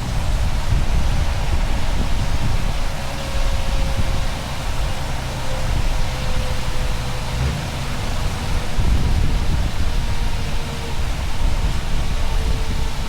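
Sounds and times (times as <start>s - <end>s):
truck engine rumble: 0.0s - 13.0s
wind and road noise: 0.0s - 13.0s.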